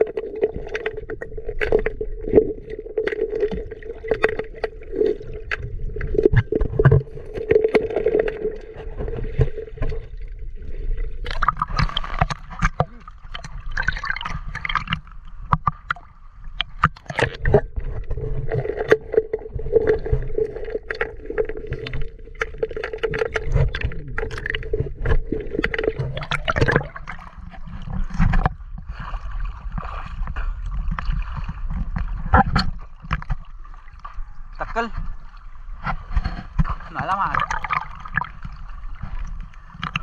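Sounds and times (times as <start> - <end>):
river water sloshing and gurgling: 0.0 - 40.0
water splashes and knocks: 0.0 - 40.0.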